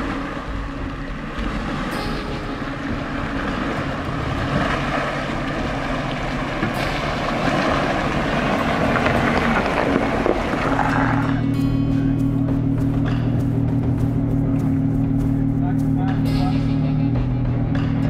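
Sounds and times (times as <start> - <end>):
tyres churning through muddy water: 0.0 - 16.8
car engine running under load: 0.0 - 18.0.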